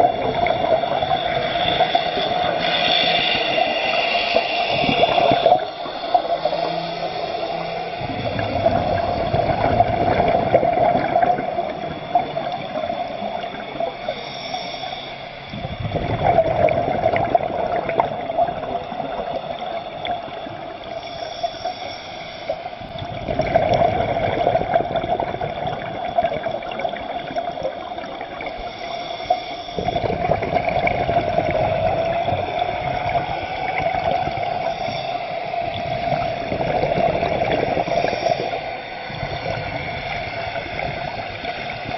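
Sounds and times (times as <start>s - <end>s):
scuba diver breathing bubbles: 0.0s - 41.9s
underwater rush of water: 0.0s - 41.9s.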